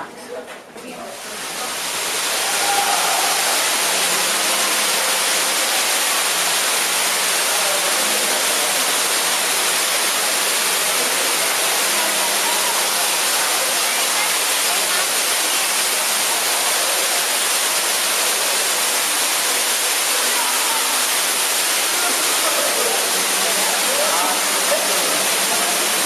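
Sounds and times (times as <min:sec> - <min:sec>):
waterfall rushing: 0:01.2 - 0:26.0.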